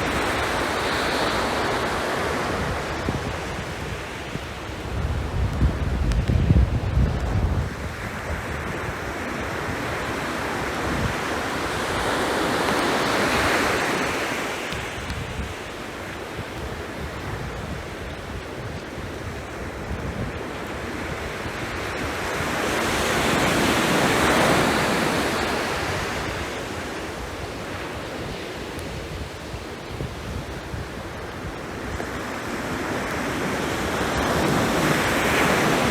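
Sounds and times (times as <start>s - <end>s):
sea waves washing onto shore: 0.0s - 35.9s
wind rumble on microphone: 0.0s - 35.9s.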